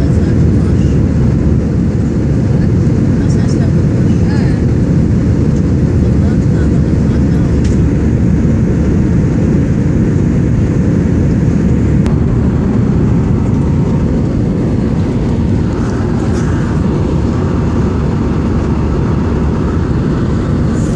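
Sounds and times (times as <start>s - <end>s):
jet engine and airflow rumble: 0.0s - 20.9s.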